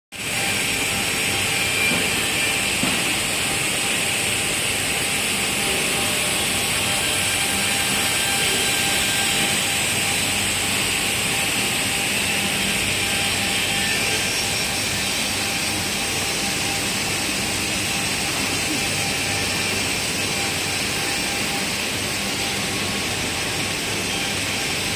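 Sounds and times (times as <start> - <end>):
factory machinery hiss: 0.2 - 24.9.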